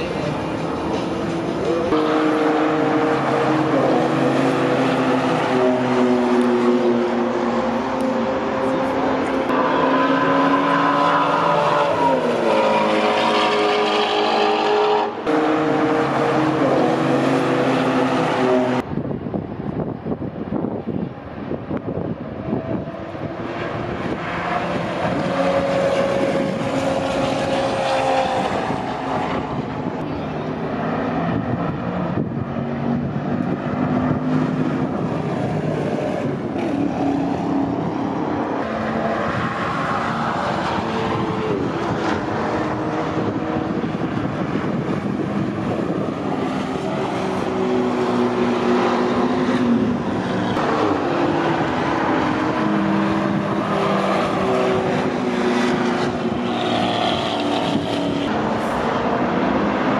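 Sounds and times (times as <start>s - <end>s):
race car engines at speed: 0.0s - 59.9s.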